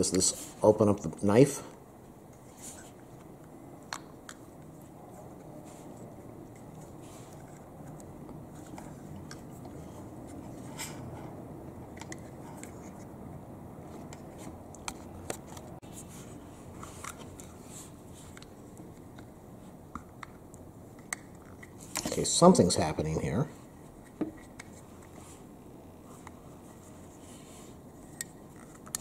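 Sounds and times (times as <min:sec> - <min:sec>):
steady low background noise: 0:00.0 - 0:29.0.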